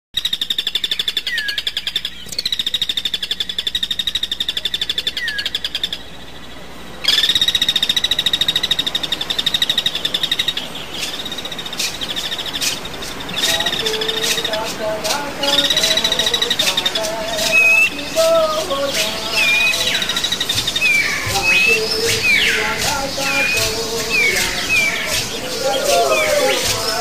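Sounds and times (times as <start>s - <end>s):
bird trilling: 0.2s - 6.4s, 7.0s - 27.0s.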